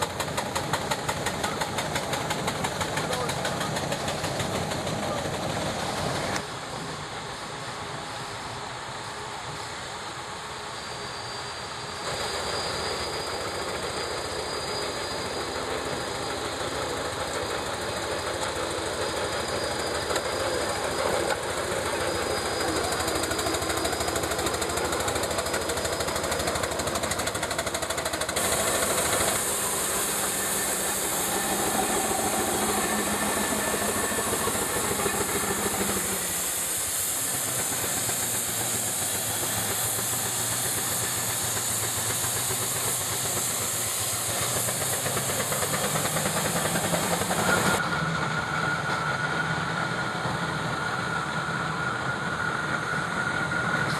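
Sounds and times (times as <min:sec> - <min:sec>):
steam engine mechanical clatter: 0:00.0 - 0:06.4, 0:12.0 - 0:53.9
loud steam hiss: 0:00.0 - 0:53.9.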